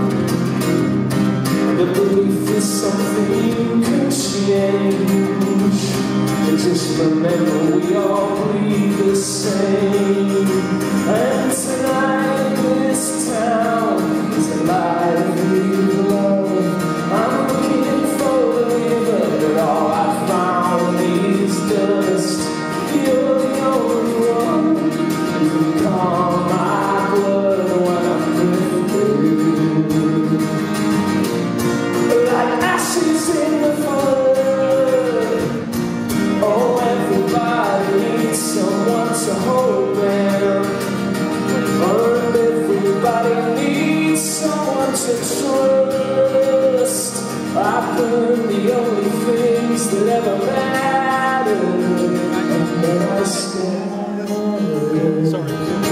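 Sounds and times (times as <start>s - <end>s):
acoustic guitar: 0.0s - 55.9s
person singing: 1.6s - 30.8s, 32.0s - 35.7s, 36.3s - 55.9s.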